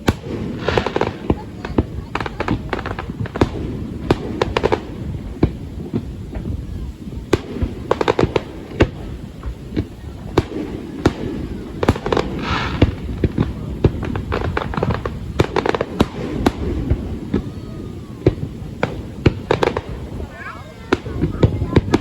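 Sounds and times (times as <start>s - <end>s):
fireworks bangs: 0.0s - 22.0s
fireworks hissing crackle: 0.0s - 22.0s.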